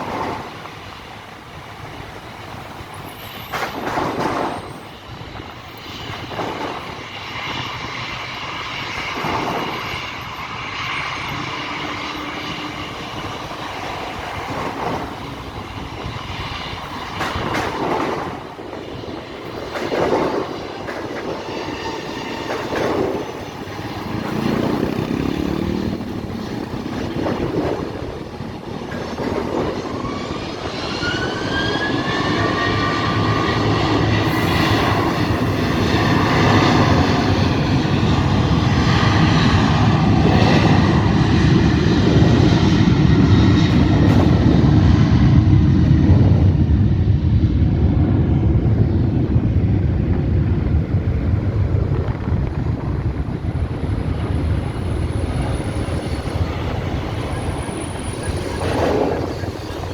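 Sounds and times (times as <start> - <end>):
jet airliner passing overhead: 0.0 - 59.9.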